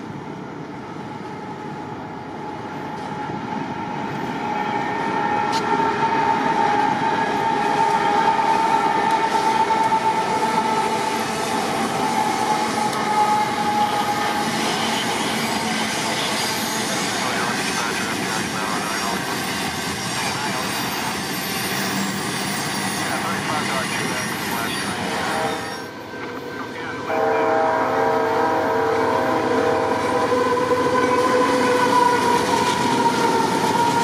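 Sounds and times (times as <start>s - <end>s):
train wheels rumbling on rails: 0.0s - 27.2s, 28.3s - 34.0s.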